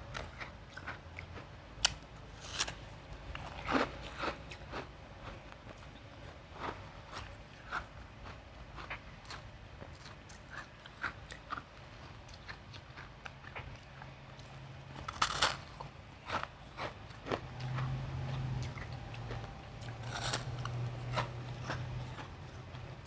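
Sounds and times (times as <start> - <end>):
crunching ice being chewed: 0.1 - 23.0.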